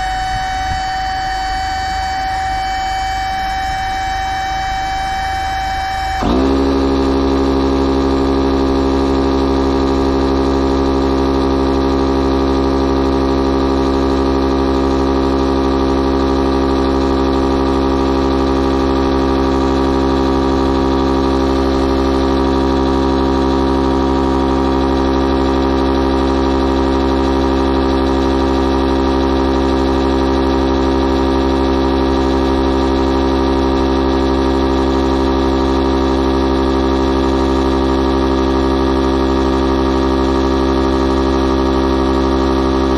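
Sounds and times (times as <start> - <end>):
electric air pump humming: 0.0 - 42.9.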